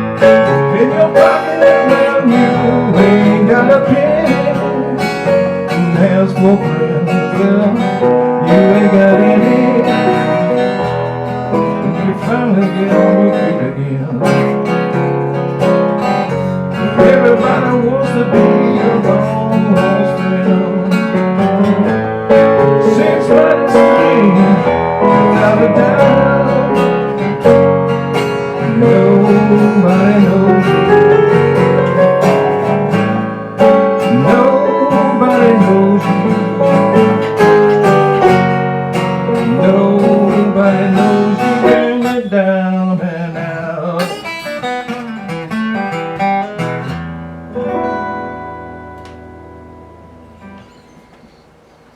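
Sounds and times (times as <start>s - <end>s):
blues band playing: 0.0s - 51.3s
guitar with bending notes: 0.0s - 51.9s.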